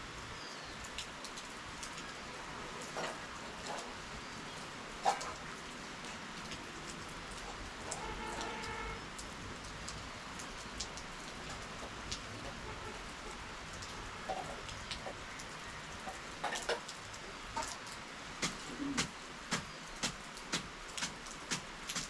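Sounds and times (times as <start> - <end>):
rainfall patter: 0.0 - 22.0.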